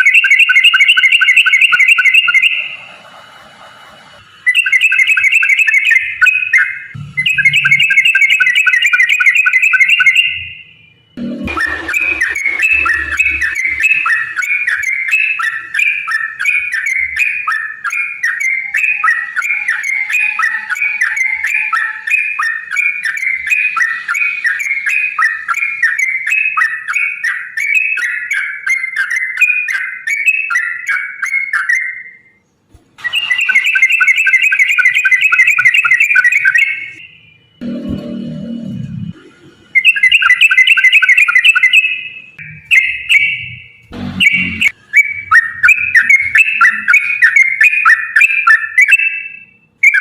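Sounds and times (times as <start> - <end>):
bulbul singing: 0.0 - 2.8, 4.5 - 32.4, 33.1 - 38.2, 39.8 - 50.0.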